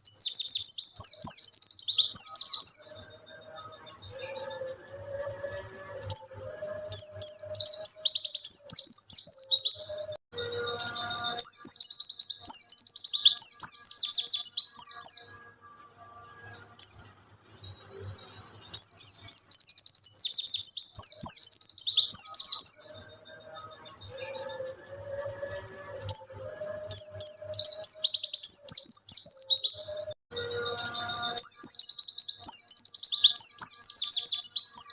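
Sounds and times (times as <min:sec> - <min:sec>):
bird warbling song: 0:00.0 - 0:34.9.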